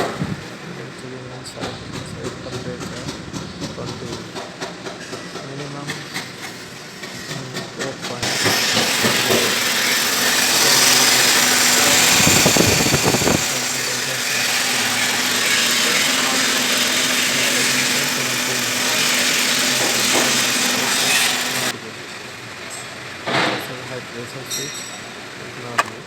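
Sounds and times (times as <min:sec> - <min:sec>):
air conditioning blowing air: 0:00.0 - 0:06.1, 0:06.7 - 0:26.0.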